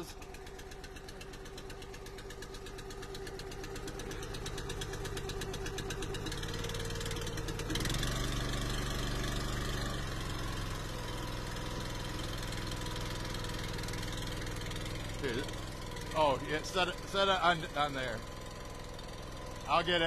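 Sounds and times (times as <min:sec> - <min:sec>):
small gas engine running: 0:00.0 - 0:20.0.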